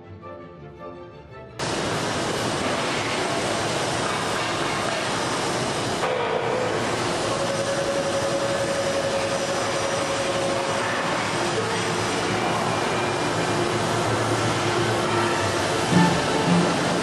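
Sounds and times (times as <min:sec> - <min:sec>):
hydraulic press whirring: 0:01.6 - 0:17.0.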